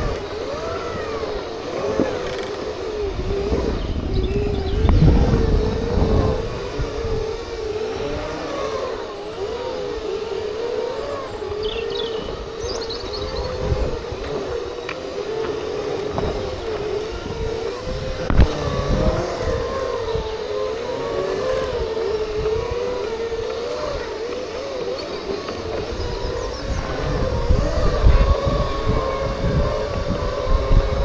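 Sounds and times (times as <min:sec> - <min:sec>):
electric motor whine: 0:00.0 - 0:31.0.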